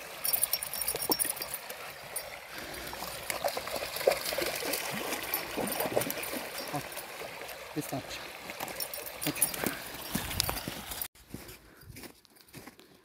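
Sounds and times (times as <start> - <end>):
stream trickling over stones: 0.0 - 11.1.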